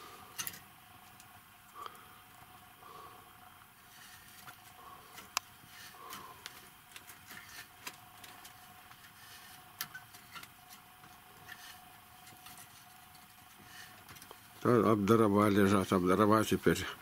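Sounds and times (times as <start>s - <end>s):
faint high hum: 0.0s - 17.0s.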